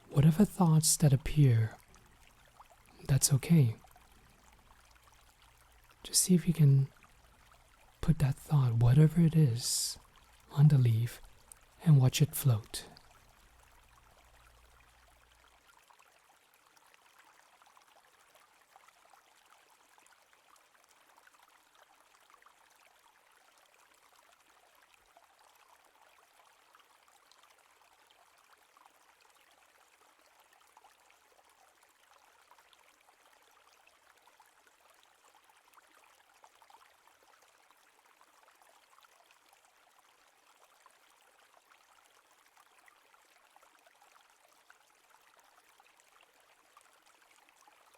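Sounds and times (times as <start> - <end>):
stream water trickling: 0.0 - 47.9.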